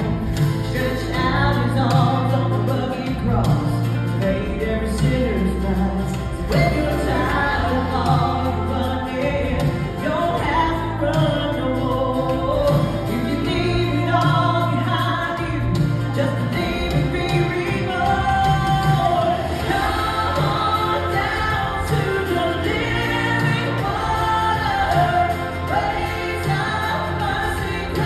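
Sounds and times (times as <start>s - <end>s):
instrumental accompaniment: 0.0s - 28.0s
woman singing into microphone: 0.0s - 28.0s.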